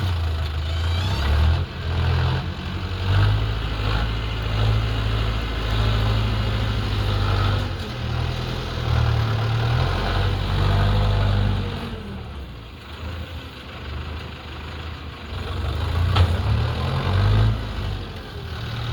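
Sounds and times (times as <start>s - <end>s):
backhoe diesel engine running: 0.0s - 18.9s.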